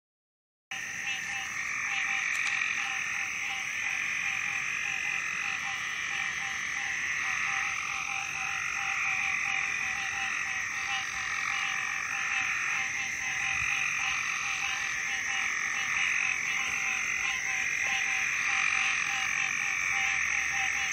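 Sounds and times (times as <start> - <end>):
frogs calling: 0.7 - 20.9
low pulsing frog call: 0.7 - 20.9.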